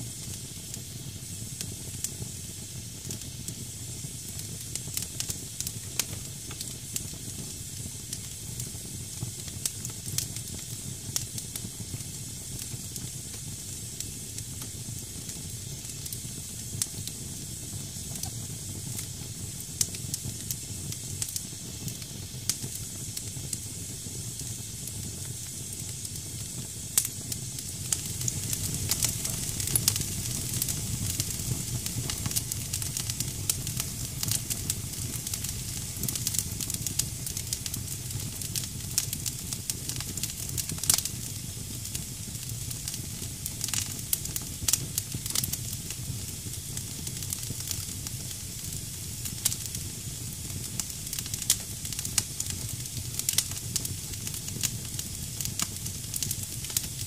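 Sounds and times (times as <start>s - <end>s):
fire crackling: 0.0s - 57.0s
low fire rumble: 0.0s - 57.0s.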